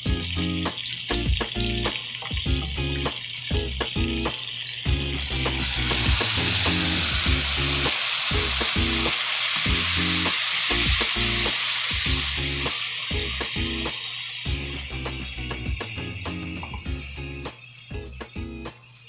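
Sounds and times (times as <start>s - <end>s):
background music: 0.0s - 13.9s, 14.5s - 19.0s
food sizzling in a pan: 0.0s - 19.0s.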